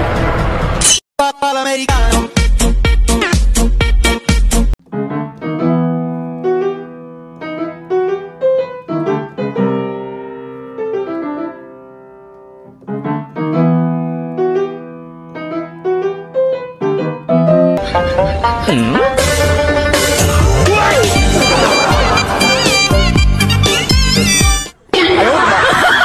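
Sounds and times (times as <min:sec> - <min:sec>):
piano music: 0:03.1 - 0:24.7.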